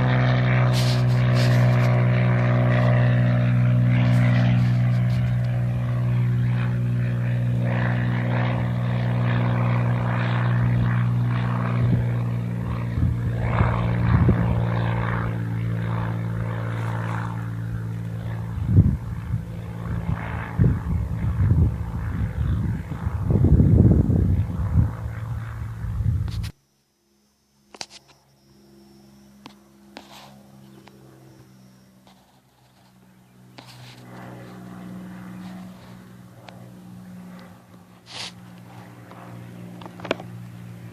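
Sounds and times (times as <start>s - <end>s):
propeller plane engine: 0.0s - 40.9s.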